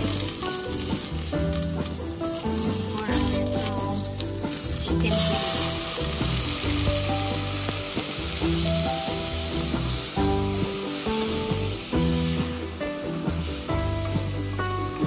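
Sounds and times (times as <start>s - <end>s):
wooden spoon stirring: 0.0s - 12.8s
broth sizzling in a hot pot: 0.0s - 15.0s.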